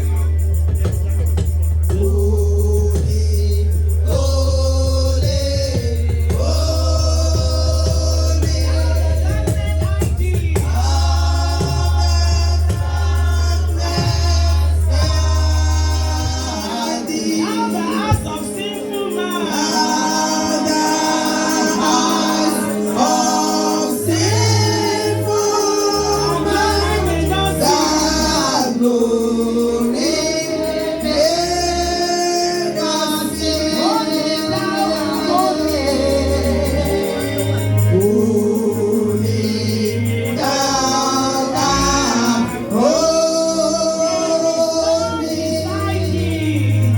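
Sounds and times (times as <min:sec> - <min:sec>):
gospel choir singing: 0:00.0 - 0:46.9
heavy bass line: 0:00.0 - 0:46.9.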